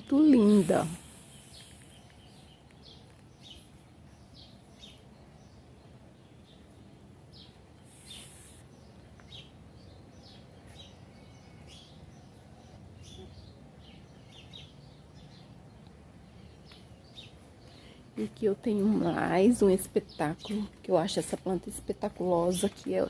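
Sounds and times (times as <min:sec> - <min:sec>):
low outdoor background noise: 0:00.0 - 0:23.0
small birds chirping: 0:00.0 - 0:23.0.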